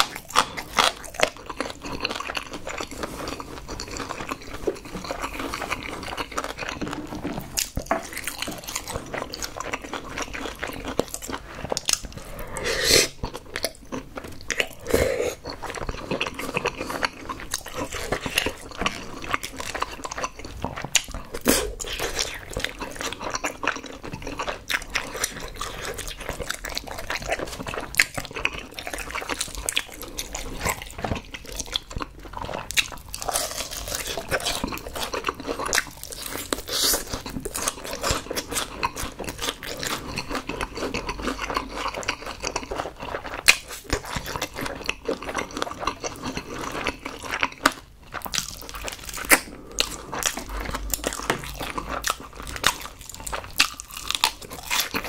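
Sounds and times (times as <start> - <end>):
crunching and chewing fried chicken: 0.0 - 55.0.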